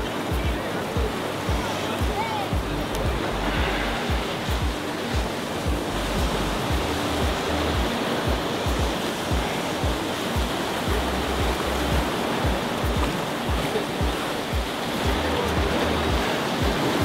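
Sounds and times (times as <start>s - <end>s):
ocean surf on rocky shore: 0.0s - 17.0s
wind buffeting microphone: 0.0s - 17.0s.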